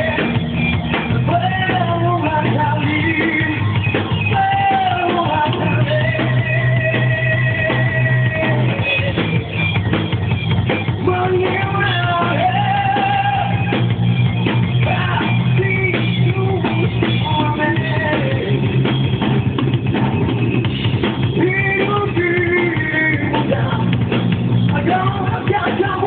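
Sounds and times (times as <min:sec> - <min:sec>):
drum kit beat: 0:00.0 - 0:26.0
electric guitars: 0:00.0 - 0:26.0
live rock band playing: 0:00.0 - 0:26.0.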